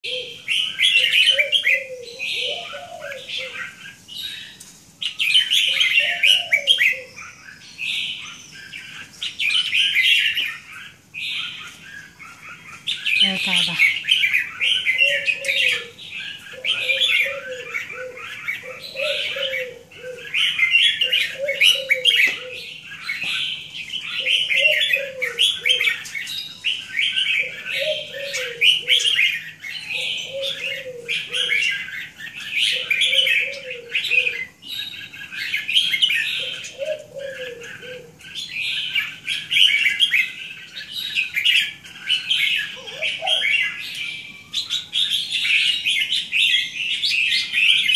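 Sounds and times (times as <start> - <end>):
dove cooing: 0.0 - 47.9
small birds chirping: 0.0 - 47.9.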